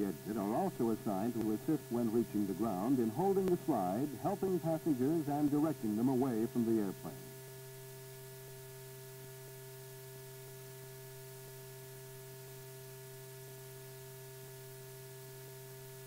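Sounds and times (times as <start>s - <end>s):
electrical hum: 0.0s - 16.0s
faint hiss: 0.0s - 16.0s.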